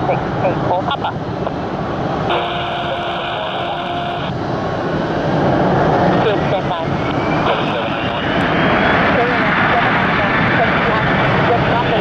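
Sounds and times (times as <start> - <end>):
radio hiss and hum: 0.0 - 1.6, 2.2 - 4.4, 6.0 - 12.0
jet engines idling: 0.0 - 12.0.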